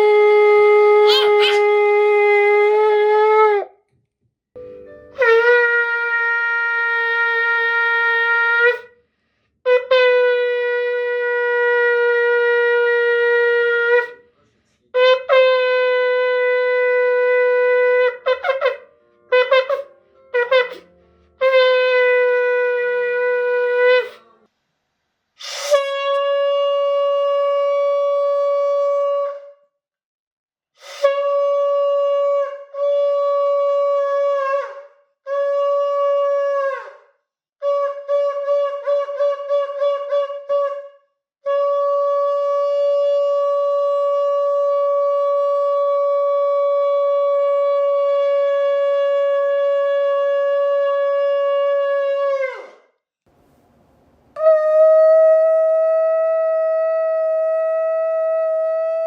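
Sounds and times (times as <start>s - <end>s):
shofar blasts: 5.1s - 9.0s, 9.6s - 14.3s, 14.9s - 24.3s, 25.4s - 29.6s, 30.9s - 37.0s, 37.6s - 52.8s, 54.4s - 59.0s.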